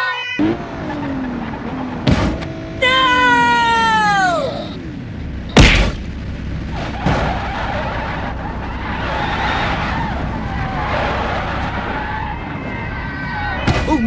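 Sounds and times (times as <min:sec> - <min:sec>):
car engine running: 0:00.4 - 0:14.0.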